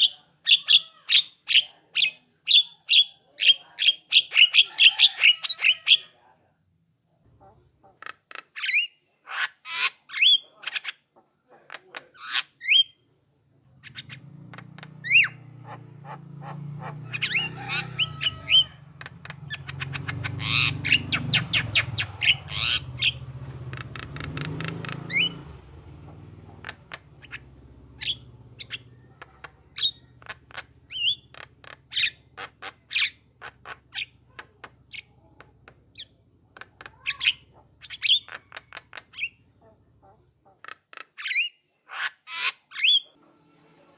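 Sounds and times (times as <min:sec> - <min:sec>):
myna clicks whistles and chatter: 0:00.0 - 0:06.2, 0:07.2 - 0:13.0, 0:13.6 - 0:43.1.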